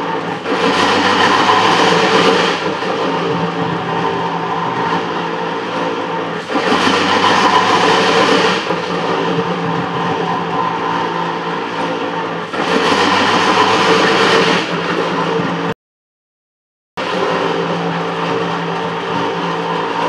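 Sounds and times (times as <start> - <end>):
metal planer machine running: 0.0 - 15.8, 17.0 - 20.0.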